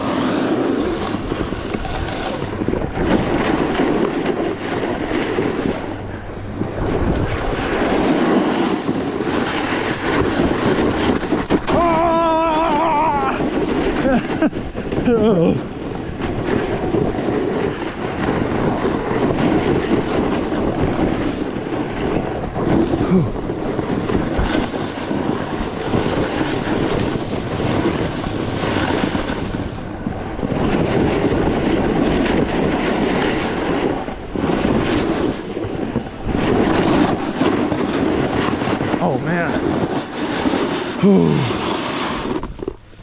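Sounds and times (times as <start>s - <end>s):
snowboard scraping over snow: 0.0s - 43.0s
wind rushing over microphone: 0.0s - 43.0s.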